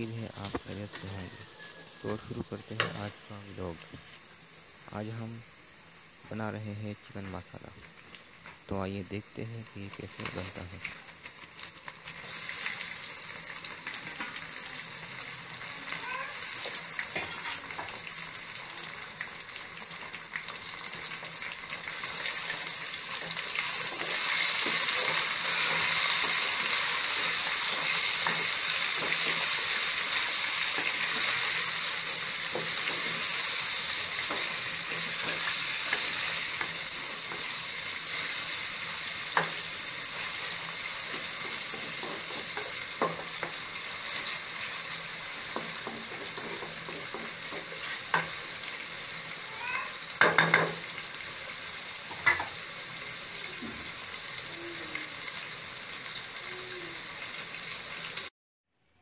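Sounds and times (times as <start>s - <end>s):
food sizzling in oil: 0.0s - 58.3s.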